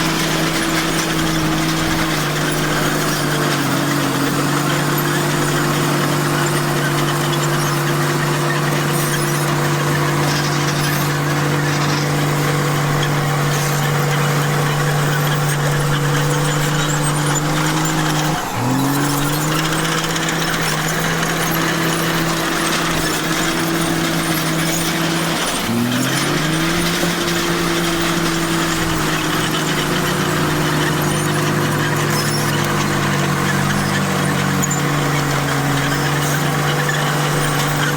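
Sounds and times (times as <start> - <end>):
bulldozer diesel engine running: 0.0 - 37.9.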